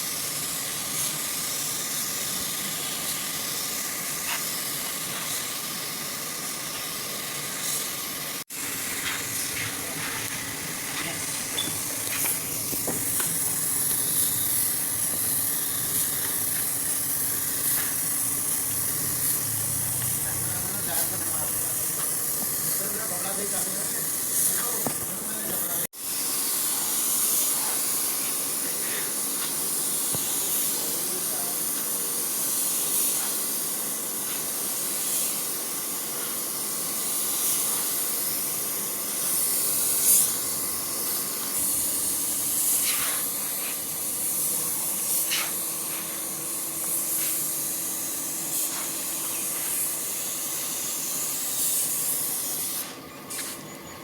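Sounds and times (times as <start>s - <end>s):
compressed air spray hissing: 0.0s - 53.7s.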